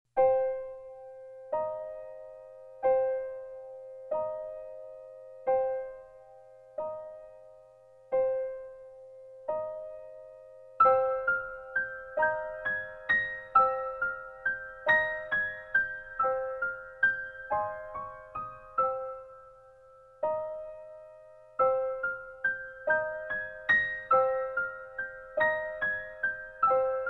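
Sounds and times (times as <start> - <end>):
soft piano music: 0.2 - 27.0.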